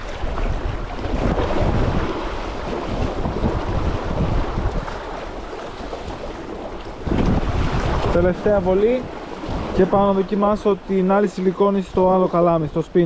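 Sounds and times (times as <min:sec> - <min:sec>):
sea waves: 0:00.0 - 0:13.0
wind buffeting microphone: 0:00.0 - 0:13.0.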